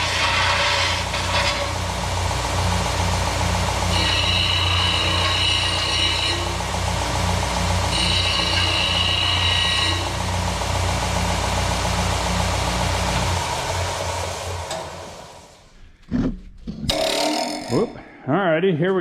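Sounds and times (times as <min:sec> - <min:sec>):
high grinding whine: 0:00.0 - 0:15.8, 0:16.7 - 0:18.0
deburring machine motor hum: 0:00.0 - 0:16.0.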